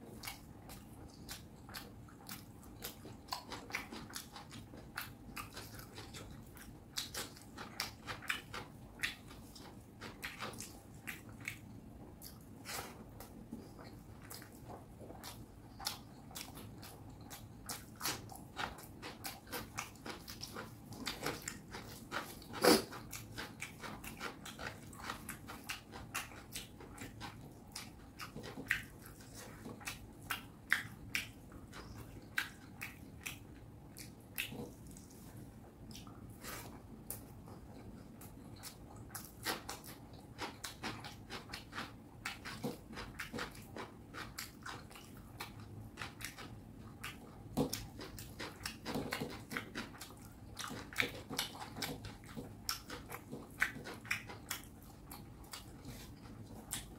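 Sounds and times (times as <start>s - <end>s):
wet chewing and mouth-smacking: 0.0s - 56.9s.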